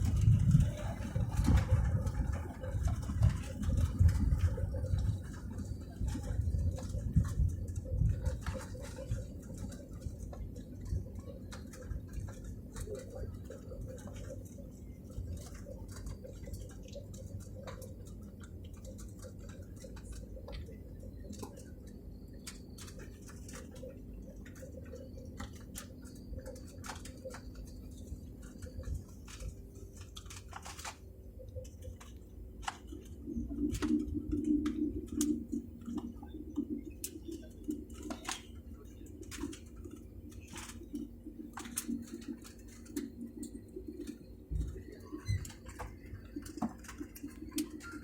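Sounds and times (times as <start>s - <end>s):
airliner cabin rumble: 0.0s - 48.0s
light clicks and rattles: 0.0s - 48.0s.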